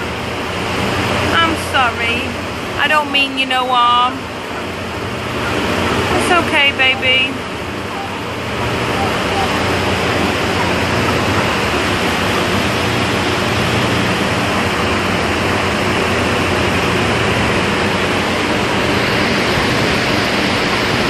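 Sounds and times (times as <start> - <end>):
rushing machinery noise: 0.0 - 21.0.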